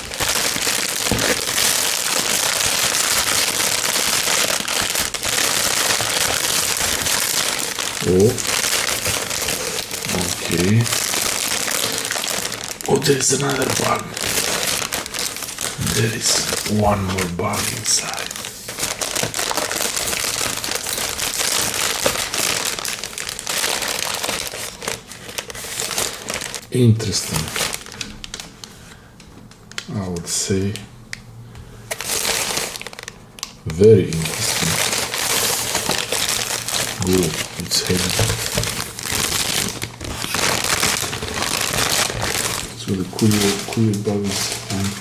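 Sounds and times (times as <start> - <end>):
plastic mailing bag crinkling: 0.0 - 30.8, 31.9 - 45.0.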